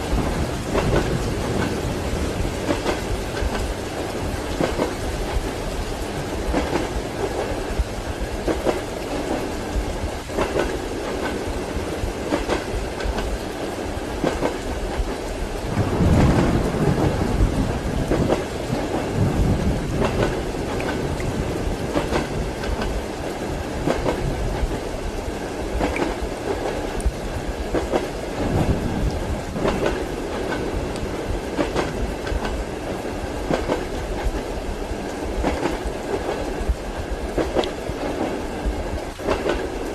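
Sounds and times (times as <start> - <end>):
rain: 0.0 - 39.9
thunder rumble: 0.0 - 39.9
train wheels clacking: 0.1 - 24.9, 25.8 - 28.8, 29.4 - 34.5, 35.4 - 39.9.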